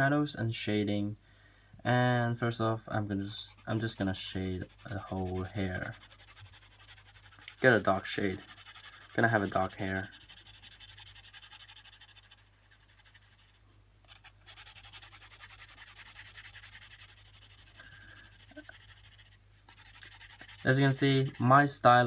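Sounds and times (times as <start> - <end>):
pencil scratching on paper: 3.4 - 21.5.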